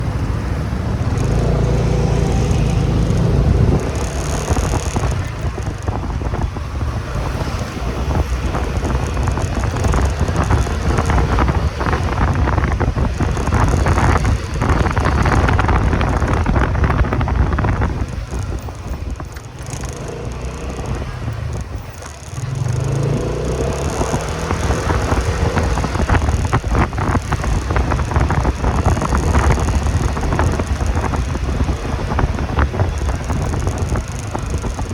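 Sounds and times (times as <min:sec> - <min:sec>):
motorcycle engine running: 0:00.0 - 0:34.9
wind noise on microphone: 0:00.0 - 0:34.9.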